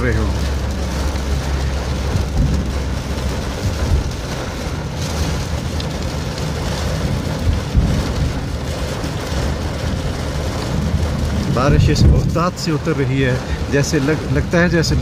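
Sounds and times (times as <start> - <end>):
car rumble and tyres on wet road: 0.0 - 15.0
torrential rain pelting a car: 0.0 - 15.0.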